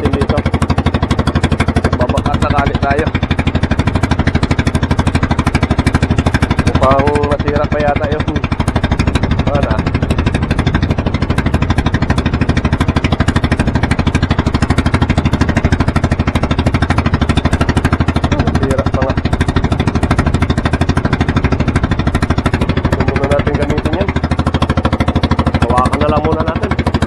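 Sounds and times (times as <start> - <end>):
boat engine chugging: 0.0 - 27.0.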